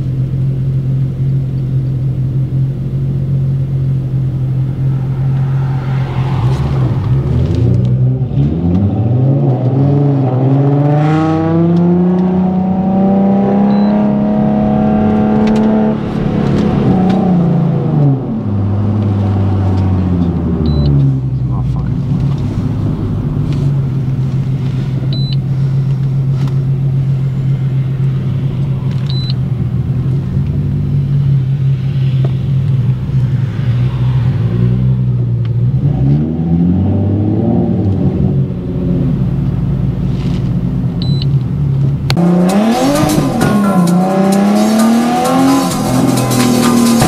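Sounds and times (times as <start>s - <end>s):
car engine from inside cabin: 0.0s - 47.0s
engine revving: 3.8s - 40.4s, 42.0s - 47.0s.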